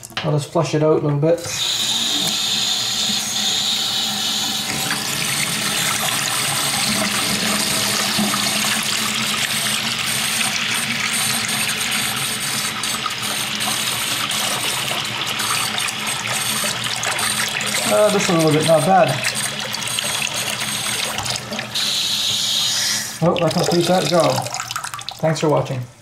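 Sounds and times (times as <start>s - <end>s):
water running from tap: 0.0s - 0.2s, 1.4s - 25.8s.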